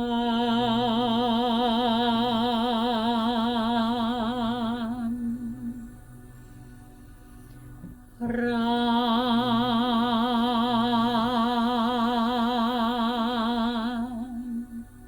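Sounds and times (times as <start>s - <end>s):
faint steady drone: 0.0s - 15.0s.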